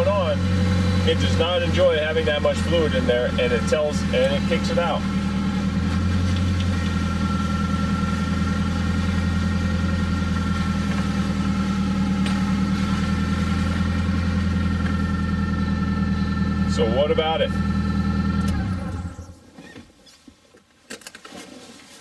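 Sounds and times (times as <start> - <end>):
car engine idling: 0.0 - 19.5.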